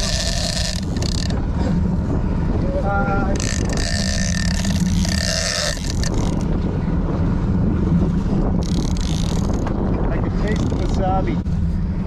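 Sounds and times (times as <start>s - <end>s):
boat engine rumbling: 0.0s - 12.0s
wind gusting on microphone: 0.0s - 12.0s.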